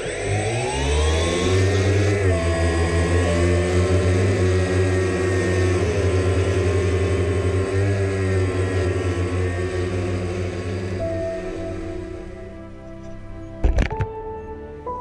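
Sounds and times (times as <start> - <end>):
aircraft droning overhead: 0.0 - 15.0.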